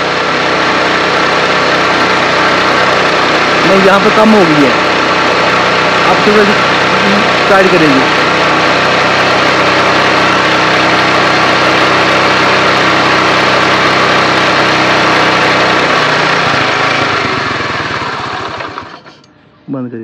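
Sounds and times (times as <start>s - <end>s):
motorcycle engine idling: 0.0s - 19.4s.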